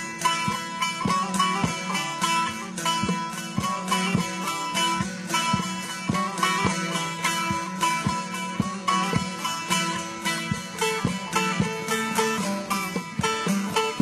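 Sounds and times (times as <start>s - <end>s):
plucked string folk music: 0.0s - 14.0s.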